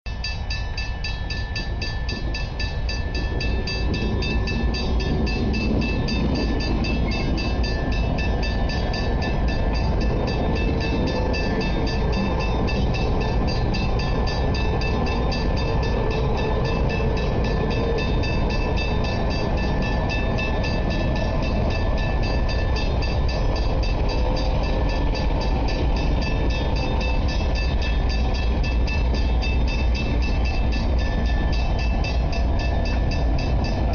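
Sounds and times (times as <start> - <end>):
diesel locomotives rumbling: 0.1 - 33.9.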